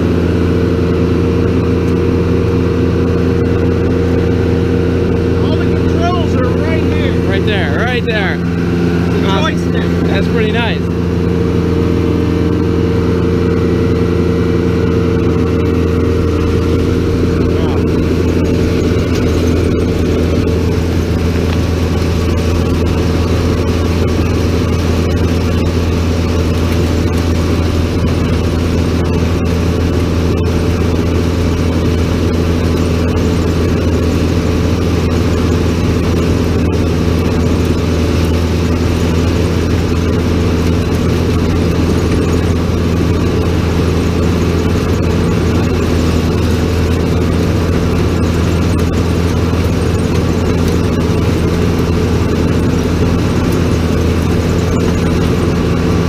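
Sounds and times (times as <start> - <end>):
harvester engine droning: 0.0 - 56.0.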